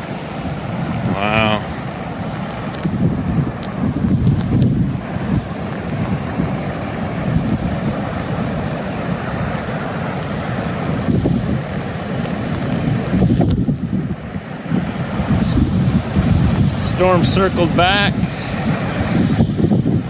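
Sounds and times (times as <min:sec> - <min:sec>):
floodwater rushing roar: 0:00.0 - 0:20.0
wind buffeting microphone: 0:00.0 - 0:20.0.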